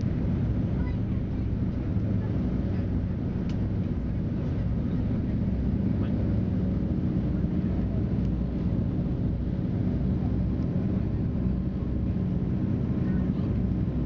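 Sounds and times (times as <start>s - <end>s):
airplane engines drone in cabin: 0.0s - 14.0s.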